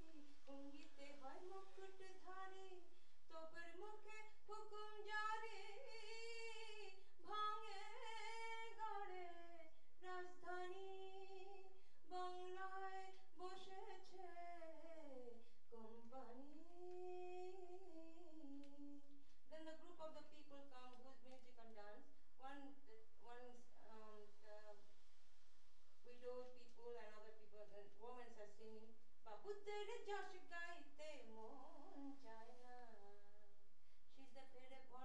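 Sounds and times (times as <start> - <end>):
woman singing unaccompanied: 0.0 - 24.8, 26.1 - 33.5, 34.1 - 35.0.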